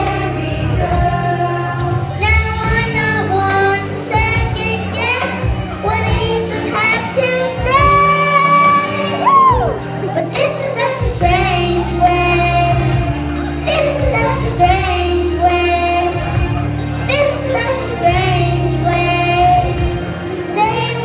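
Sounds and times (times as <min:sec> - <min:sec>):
children singing into microphones: 0:00.0 - 0:21.0
instrumental accompaniment: 0:00.0 - 0:21.0.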